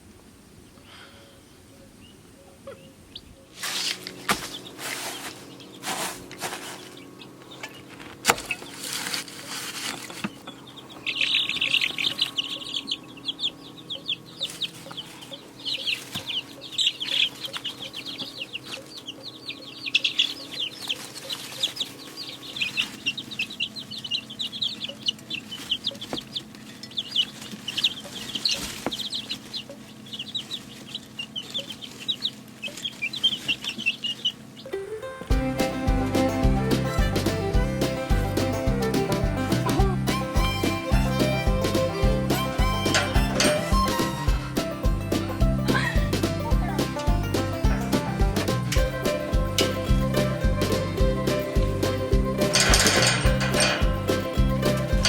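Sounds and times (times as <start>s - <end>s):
chicks cheeping: 0.6s - 55.0s.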